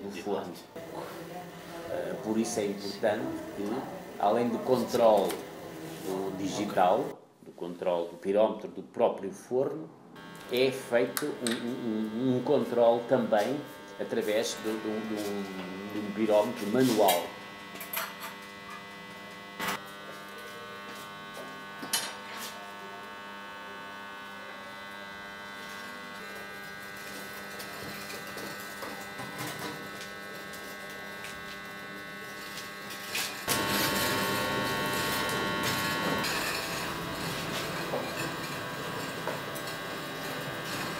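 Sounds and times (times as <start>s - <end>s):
kiln electrical hum: 0.0s - 40.9s.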